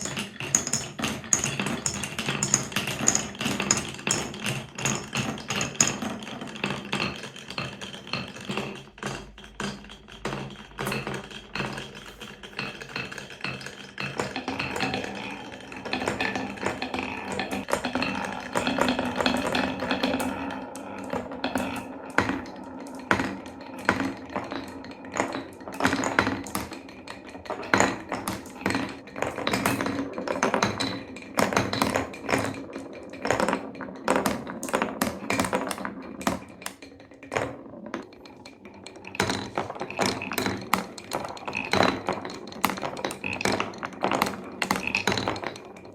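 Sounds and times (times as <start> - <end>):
marbles clicking on wooden blocks: 0.0 - 45.9
marbles rolling rumble: 0.0 - 45.9.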